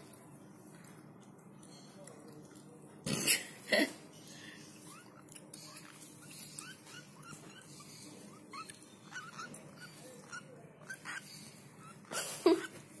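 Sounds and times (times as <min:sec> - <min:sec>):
baby bird chicks peeping: 0:00.6 - 0:03.1, 0:04.1 - 0:13.0.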